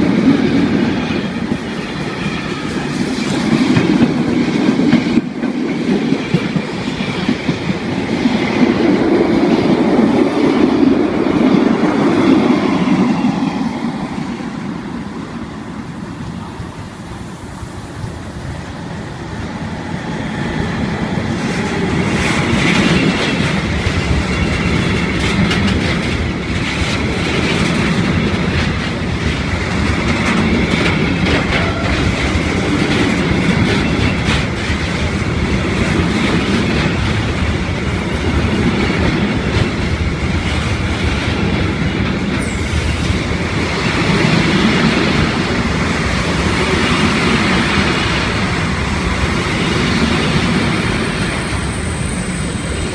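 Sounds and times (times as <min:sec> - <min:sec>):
freight train wagons clattering: 0:00.0 - 0:13.4, 0:21.2 - 0:52.9.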